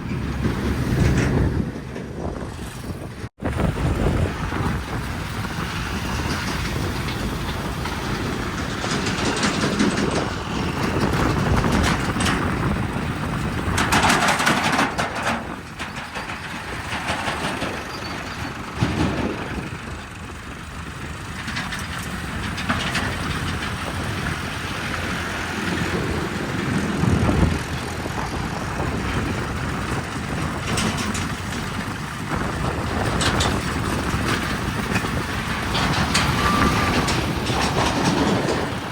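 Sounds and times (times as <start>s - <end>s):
diesel machinery engine labouring: 0.0s - 38.9s.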